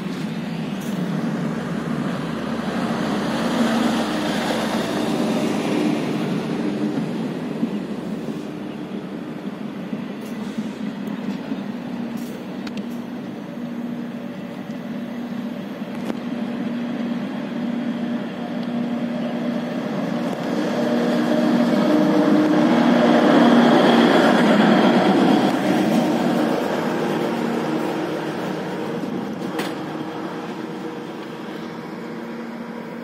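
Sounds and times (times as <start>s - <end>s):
diesel train engine drone: 0.0s - 33.0s.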